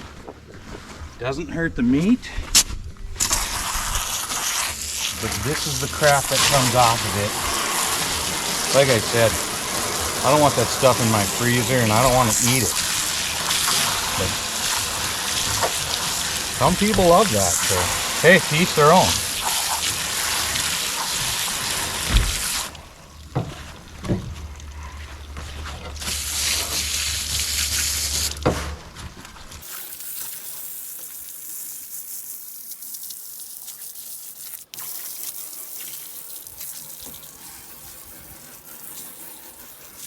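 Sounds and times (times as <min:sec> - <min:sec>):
faint water hiss: 0:03.2 - 0:40.0
running water spraying: 0:03.2 - 0:40.0.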